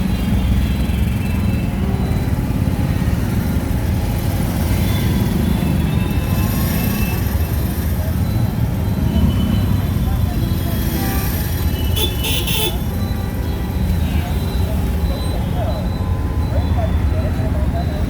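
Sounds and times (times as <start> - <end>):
auto-rickshaw engine running: 0.0 - 18.0
street traffic noise: 0.0 - 18.0.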